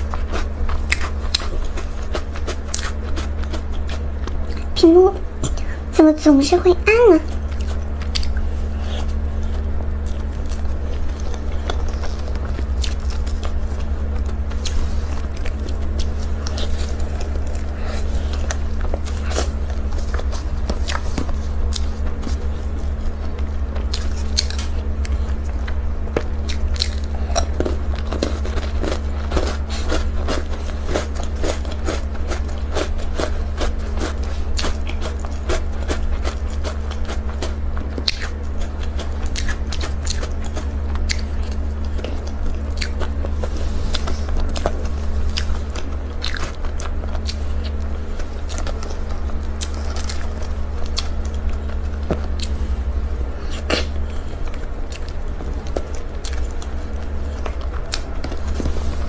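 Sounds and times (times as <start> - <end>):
low hum: 0.0 - 59.0
person chewing cake: 0.0 - 59.0.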